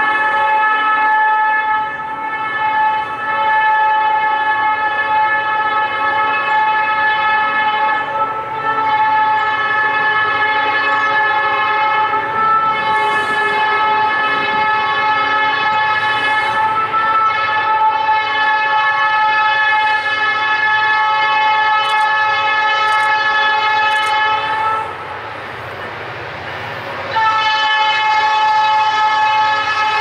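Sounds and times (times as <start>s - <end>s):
locomotive air horn blast: 0.0s - 25.4s, 27.0s - 30.0s.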